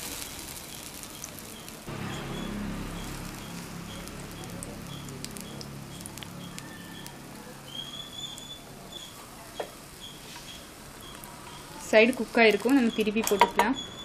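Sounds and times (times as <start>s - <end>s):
bread frying in a pan: 0.0s - 14.0s.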